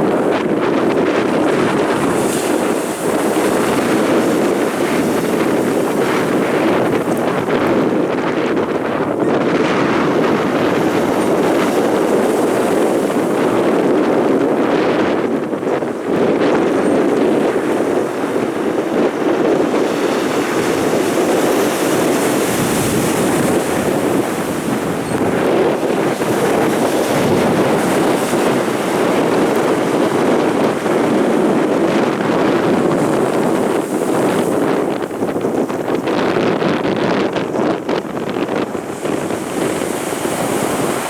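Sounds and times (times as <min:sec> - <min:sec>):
storm surf roaring: 0:00.0 - 0:41.0
wind buffeting microphone: 0:00.0 - 0:41.0.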